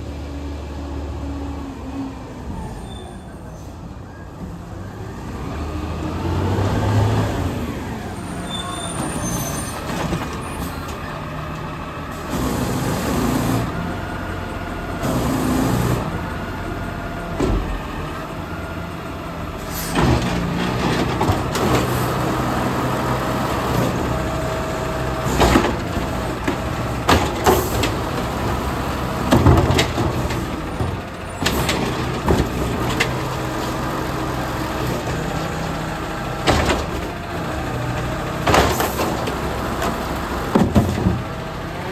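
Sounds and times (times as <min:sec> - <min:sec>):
garbage truck engine running: 0:04.1 - 0:41.9.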